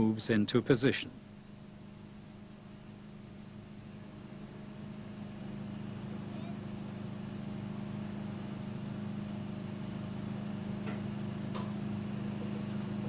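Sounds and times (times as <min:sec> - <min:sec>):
crane engine humming: 0:01.1 - 0:13.0.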